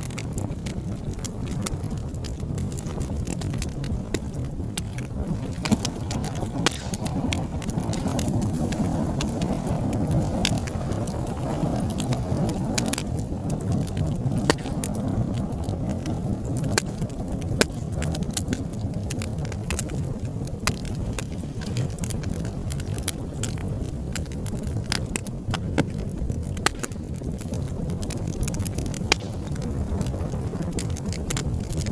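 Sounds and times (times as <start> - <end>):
fire crackling and popping: 0.0 - 31.9
fire rumbling in fireplace: 0.0 - 31.9.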